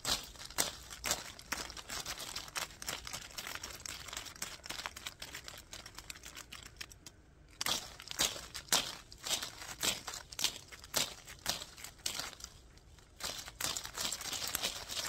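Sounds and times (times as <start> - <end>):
leaves rustling against microphone: 0.0 - 15.0.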